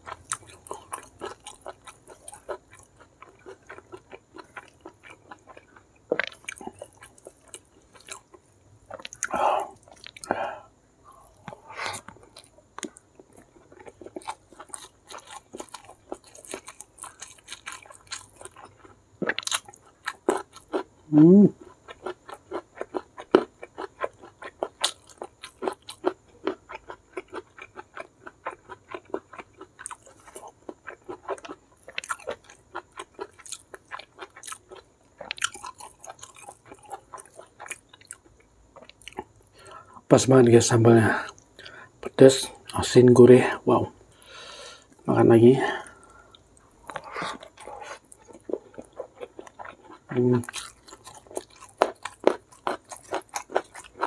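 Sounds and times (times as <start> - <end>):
wet chewing with crunches: 0.0 - 10.4, 11.1 - 21.0, 21.6 - 40.0, 45.8 - 54.0.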